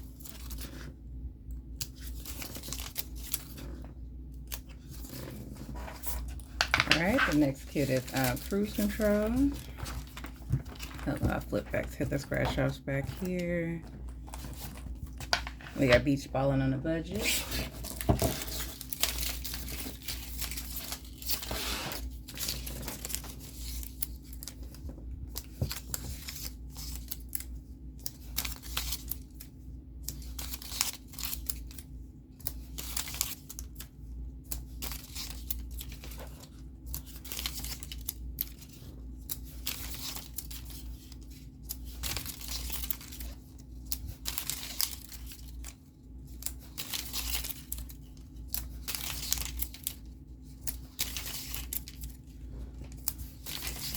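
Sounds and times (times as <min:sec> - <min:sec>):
paper rustling and crinkling: 0:00.0 - 0:01.0, 0:01.8 - 0:53.9.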